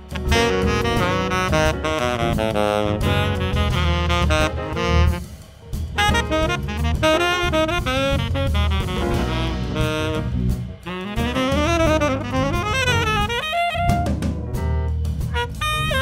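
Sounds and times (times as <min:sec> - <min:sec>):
saxophone solo: 0:00.0 - 0:05.4, 0:06.0 - 0:14.6, 0:15.3 - 0:16.0
bass: 0:00.0 - 0:16.0
drums: 0:00.0 - 0:16.0.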